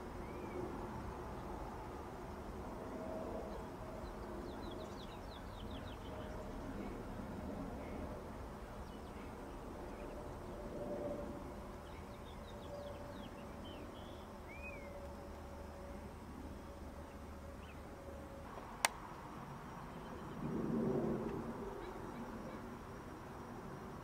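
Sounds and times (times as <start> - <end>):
jet airliner rumble overhead: 0.0 - 24.0.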